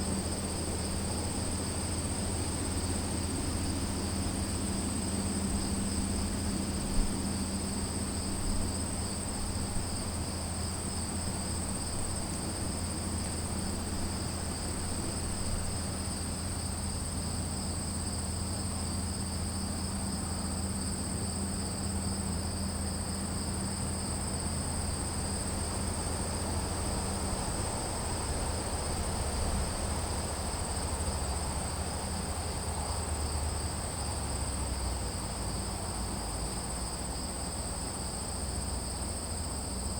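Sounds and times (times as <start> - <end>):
insects trilling: 0.0 - 39.9
low hum and rumble: 0.0 - 39.9.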